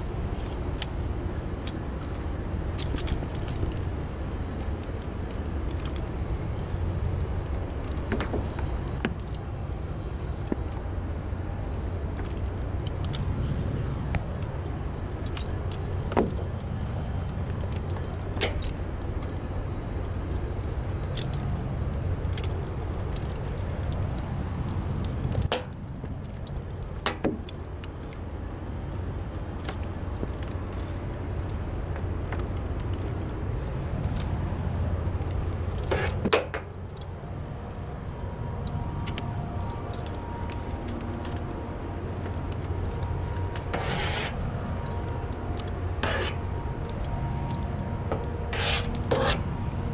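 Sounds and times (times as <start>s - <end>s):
metal carabiners clinking: 0.0s - 49.9s
steady low rumble: 0.0s - 49.9s.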